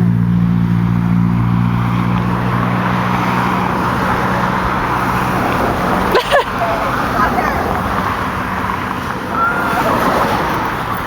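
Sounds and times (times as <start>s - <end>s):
cars passing: 0.0s - 11.0s
vehicle engine humming: 0.0s - 11.0s.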